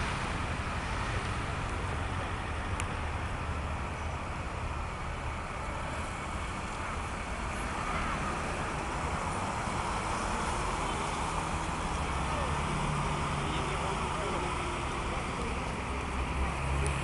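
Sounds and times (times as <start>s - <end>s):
cars driving past: 0.0s - 17.0s.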